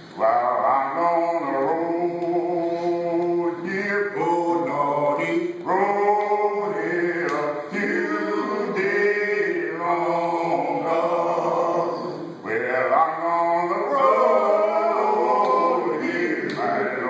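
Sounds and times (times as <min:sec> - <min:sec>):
men singing a cappella: 0:00.1 - 0:17.0.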